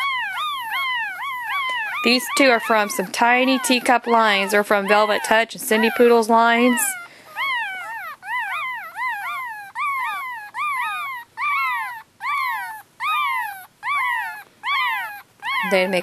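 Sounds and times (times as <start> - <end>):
puppies squealing: 0.0 - 16.0.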